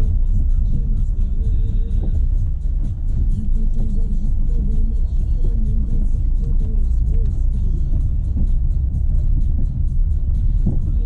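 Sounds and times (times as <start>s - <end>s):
suspension knocks and rattles: 0.0s - 11.0s
tyres rumbling on dirt road: 0.0s - 11.0s.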